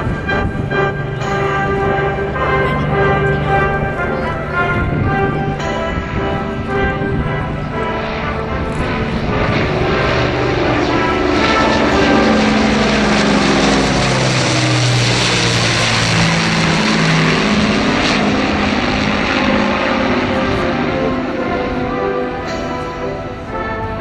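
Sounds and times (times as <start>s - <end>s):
propeller aircraft engines: 0.0s - 24.0s.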